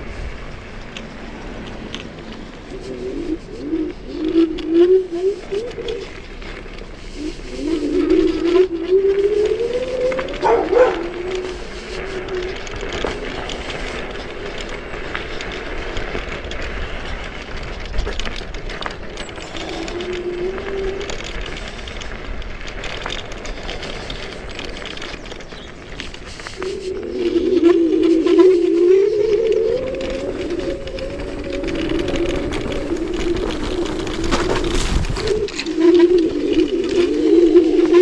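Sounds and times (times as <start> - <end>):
electric scooter motor whine: 0.0 - 38.0
rushing wind: 0.0 - 38.0
tyre noise: 0.0 - 38.0.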